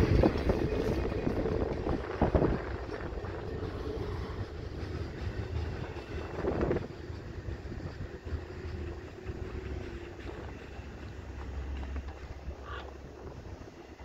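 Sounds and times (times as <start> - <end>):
freight cars rumbling on rails: 0.0 - 14.0.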